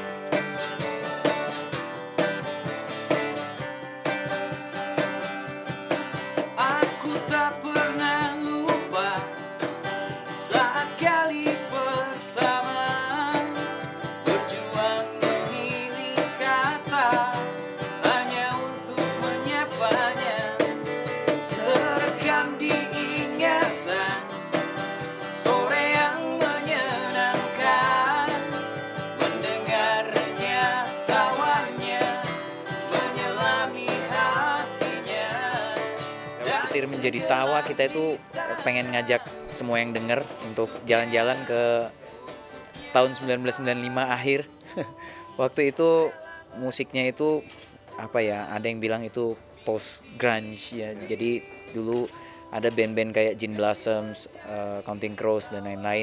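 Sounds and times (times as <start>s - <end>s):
cajon played by hand: 0.0s - 46.2s, 46.8s - 56.0s
acoustic guitars strummed: 0.0s - 56.0s
man singing: 6.5s - 56.0s.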